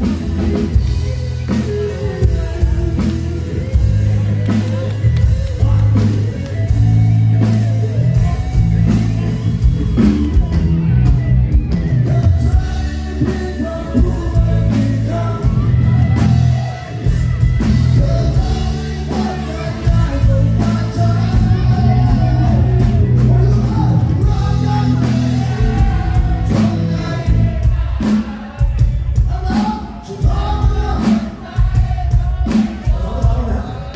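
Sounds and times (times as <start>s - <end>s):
man singing into microphone: 0.0s - 6.4s, 12.0s - 17.1s, 17.8s - 33.9s
electric bass: 0.0s - 29.6s
electric guitar: 0.0s - 33.5s
drums: 0.0s - 33.9s.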